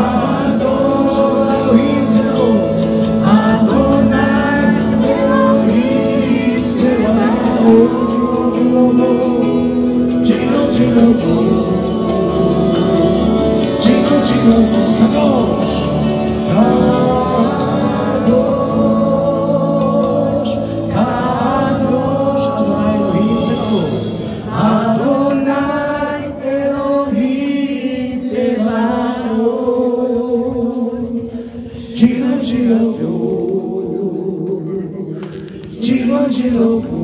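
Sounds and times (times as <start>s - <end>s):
worship song singing with music: 0.0s - 37.0s.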